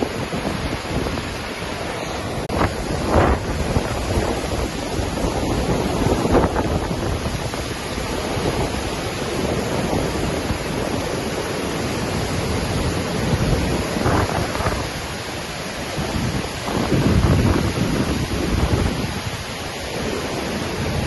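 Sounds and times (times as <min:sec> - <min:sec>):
waterfall rushing: 0:00.0 - 0:21.0
wind gusting on microphone: 0:00.0 - 0:21.0.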